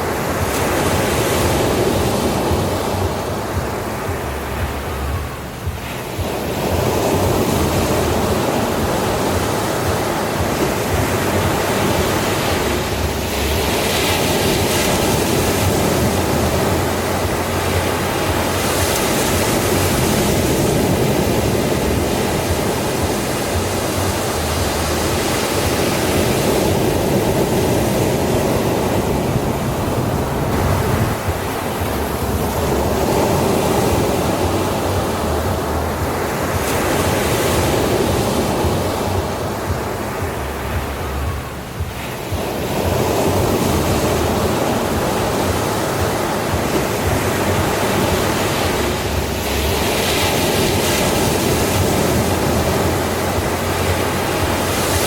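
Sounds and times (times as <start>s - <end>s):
ocean surf on beach: 0.0s - 55.0s.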